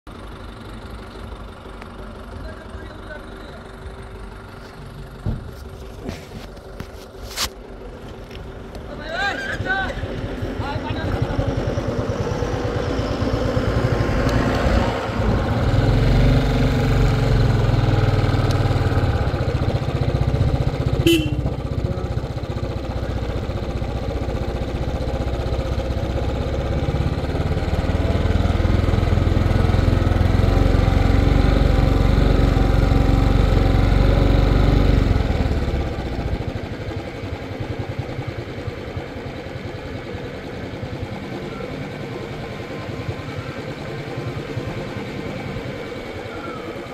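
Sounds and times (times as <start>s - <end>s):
motorcycle engine running: 0.1s - 46.9s.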